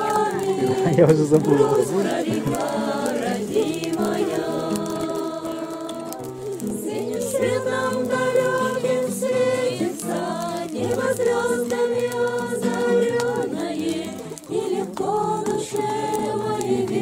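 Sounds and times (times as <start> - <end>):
group singing a slow song: 0.0 - 17.0
strummed acoustic guitar: 0.0 - 17.0.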